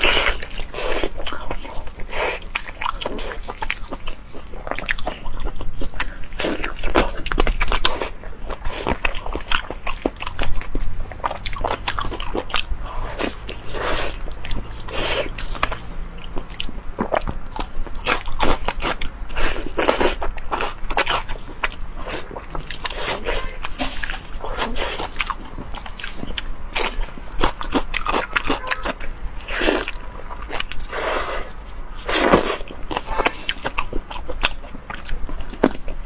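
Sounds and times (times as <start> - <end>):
wet chewing and lip-smacking: 0.0 - 36.0.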